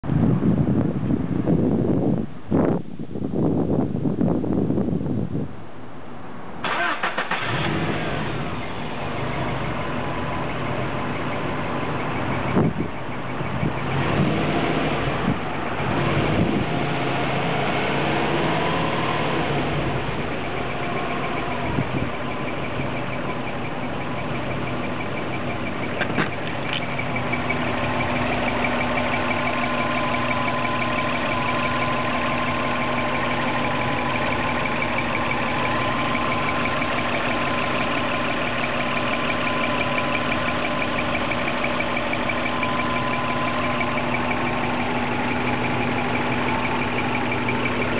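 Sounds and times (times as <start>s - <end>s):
car engine idling: 6.6s - 47.9s.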